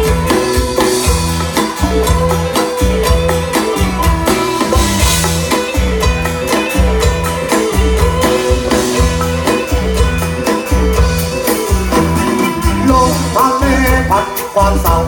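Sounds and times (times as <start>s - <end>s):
live folk-rock band playing: 0.0s - 15.0s.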